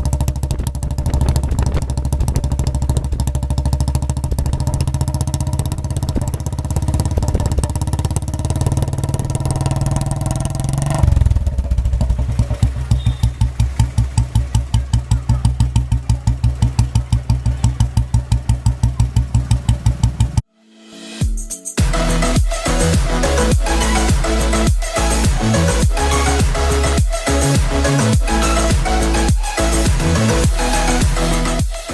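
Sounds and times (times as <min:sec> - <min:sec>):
motorcycle engine revving and idling: 0:00.0 - 0:20.4, 0:21.8 - 0:31.9.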